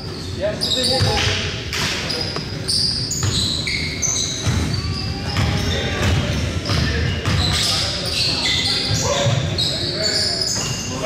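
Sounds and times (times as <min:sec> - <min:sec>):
sneaker squeaks: 0:00.0 - 0:11.0.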